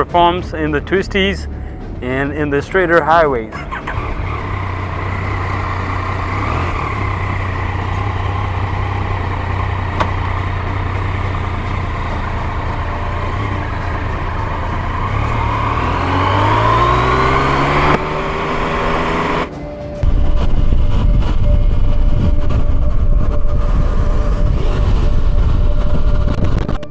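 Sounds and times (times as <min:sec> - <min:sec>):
motorcycle engine revving: 0:03.5 - 0:26.9.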